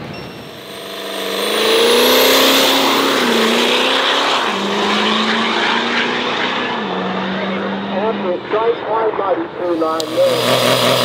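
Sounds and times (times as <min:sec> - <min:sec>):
high whine rising in pitch: 0:00.0 - 0:11.0
race car engine accelerating: 0:00.0 - 0:11.0.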